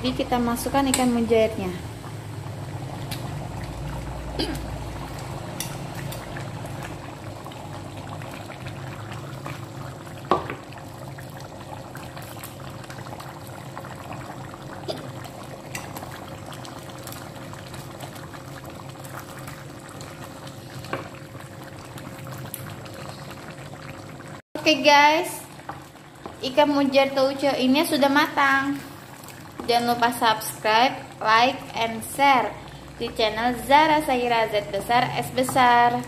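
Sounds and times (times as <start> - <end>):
sauce bubbling in a pan: 0.0 - 36.0.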